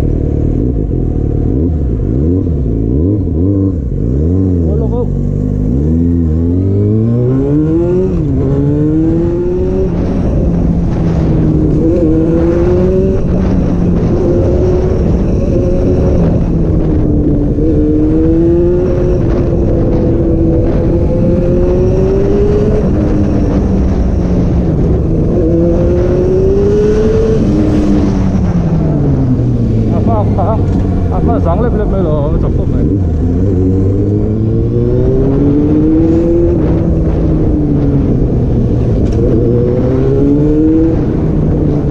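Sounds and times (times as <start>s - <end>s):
motorcycle engine revving: 0.0s - 41.9s
wind noise on microphone: 5.5s - 41.9s.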